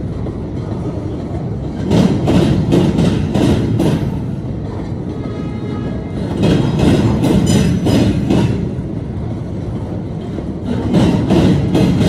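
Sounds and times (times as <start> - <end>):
train wheels clacking over crossing: 0.0 - 12.0
train wheels rumbling: 0.0 - 12.0.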